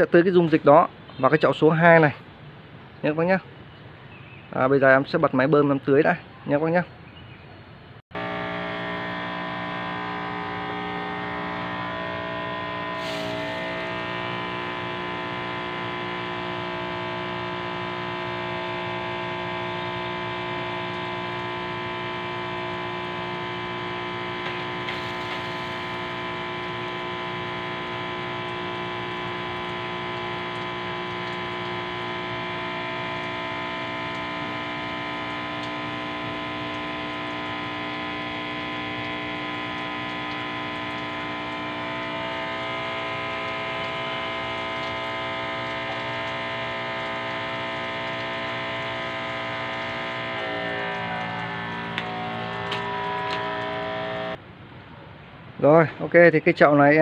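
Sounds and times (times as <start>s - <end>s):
electric water pump humming: 8.1s - 54.4s.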